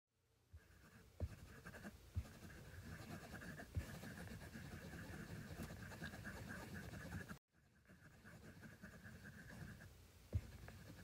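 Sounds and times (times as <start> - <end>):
scratchy rustling: 0.6 - 11.0.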